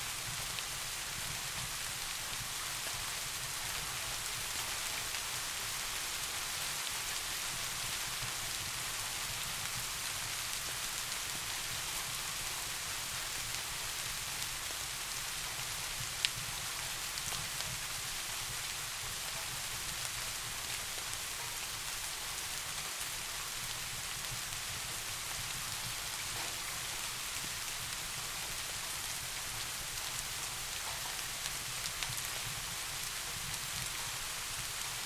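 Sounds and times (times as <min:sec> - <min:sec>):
soft rain: 0:00.0 - 0:35.0.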